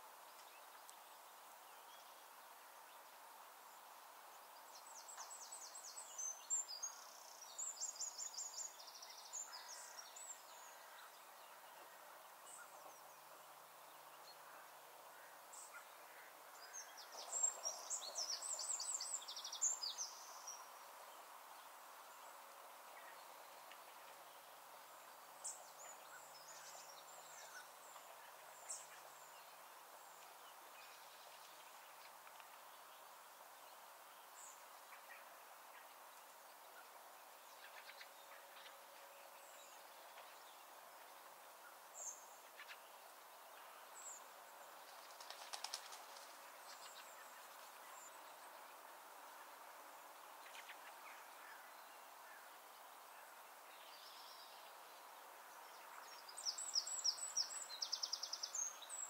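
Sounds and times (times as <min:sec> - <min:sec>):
soft steady hiss: 0:00.0 - 0:59.0.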